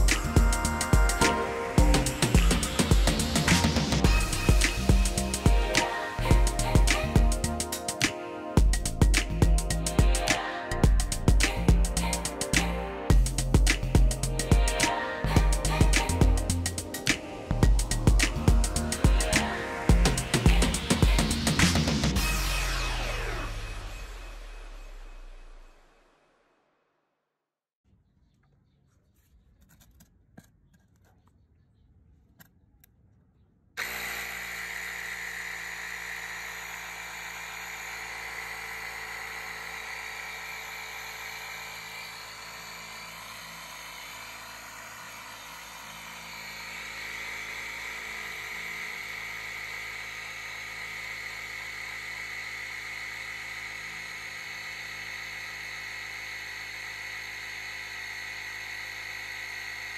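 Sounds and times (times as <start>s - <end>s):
air compressor motor whining: 0.0s - 25.6s, 33.8s - 59.9s.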